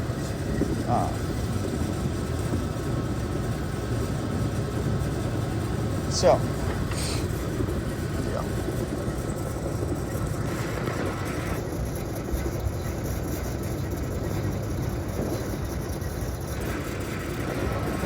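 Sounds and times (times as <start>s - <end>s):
bucket elevator machinery rumble: 0.0s - 18.0s.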